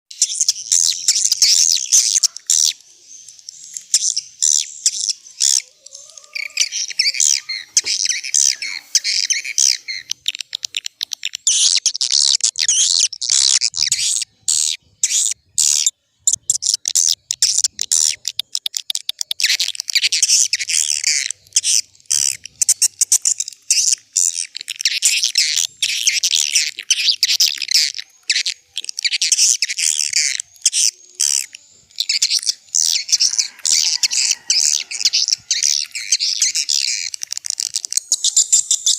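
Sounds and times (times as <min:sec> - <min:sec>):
swiftlet twitters and chirps: 0:00.1 - 0:38.9.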